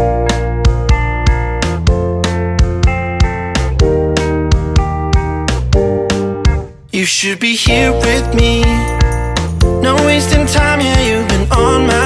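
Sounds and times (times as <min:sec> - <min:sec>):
instrumental pop music: 0:00.0 - 0:12.0.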